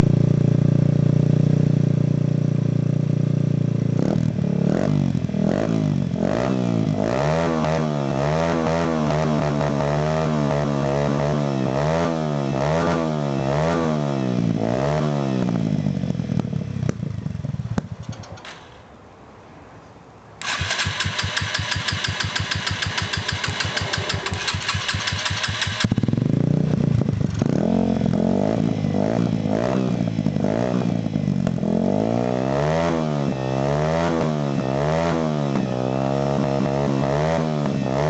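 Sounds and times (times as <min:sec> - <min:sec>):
motorcycle engine revving: 0:00.0 - 0:18.6, 0:20.4 - 0:38.0.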